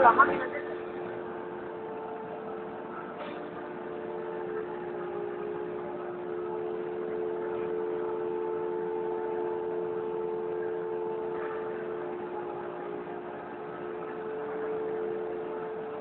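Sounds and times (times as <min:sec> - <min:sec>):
spindle motor whine: 0:00.0 - 0:16.0.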